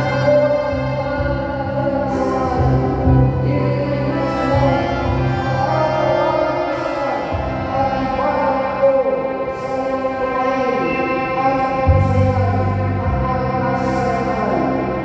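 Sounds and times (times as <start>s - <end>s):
steady bass line: 0.0s - 10.7s, 11.4s - 15.0s
electronic keyboard chords: 0.0s - 15.0s.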